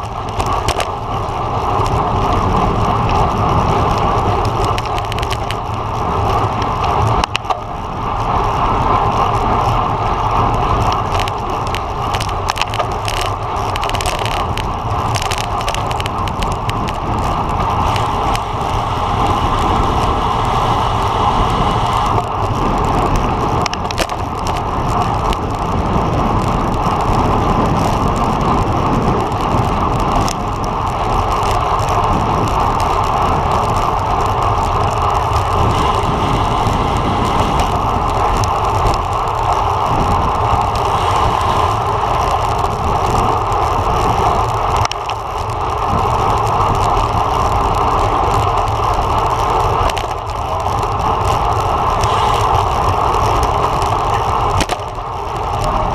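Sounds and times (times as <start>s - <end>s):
wind and tyre noise: 0.0s - 55.9s.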